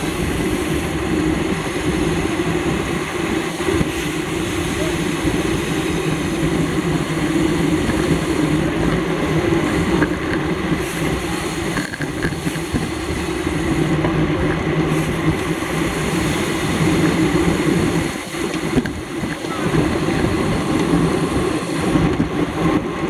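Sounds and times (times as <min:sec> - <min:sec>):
bicycle road noise: 0:00.0 - 0:23.0.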